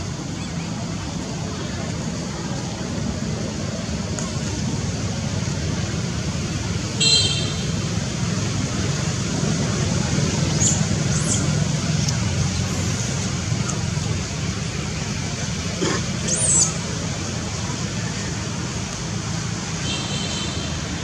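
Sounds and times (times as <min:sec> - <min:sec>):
low outdoor rumble: 0:00.0 - 0:19.8.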